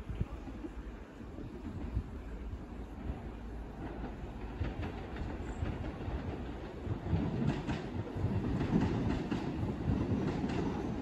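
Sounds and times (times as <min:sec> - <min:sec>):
train rumbling: 0:00.0 - 0:11.0
wheels clicking on rails: 0:01.6 - 0:11.0.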